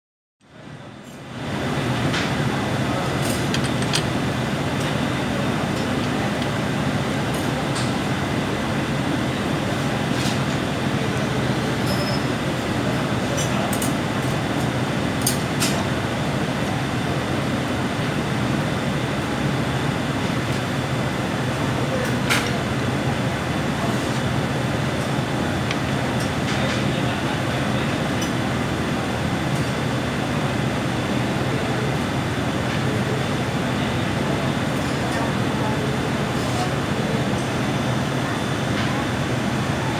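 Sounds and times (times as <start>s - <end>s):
workshop machinery hum: 0.4s - 39.9s.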